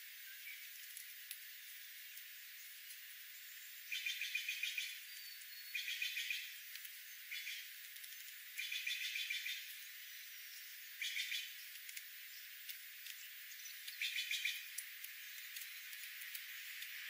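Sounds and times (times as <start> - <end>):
small birds chirping: 0.0 - 17.0
steady hiss: 0.0 - 17.0.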